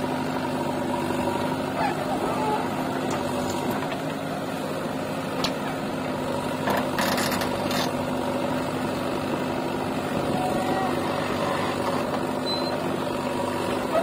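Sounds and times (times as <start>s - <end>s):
diesel engines running: 0.0s - 14.0s.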